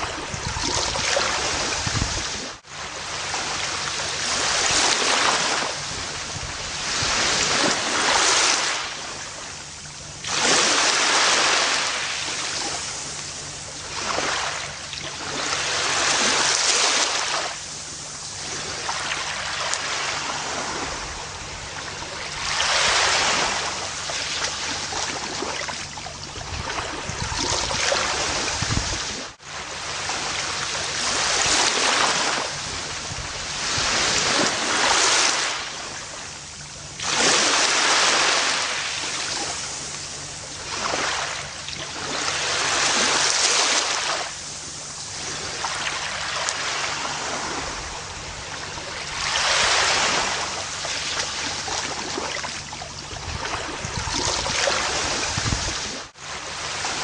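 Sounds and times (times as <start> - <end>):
ocean waves on a beach: 0.0 - 57.0.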